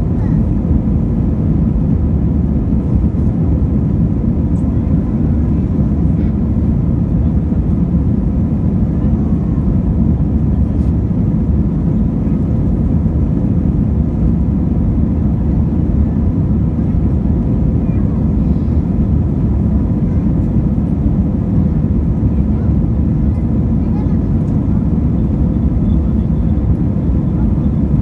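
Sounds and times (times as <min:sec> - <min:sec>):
jet engines and airflow rush: 0:00.0 - 0:28.0.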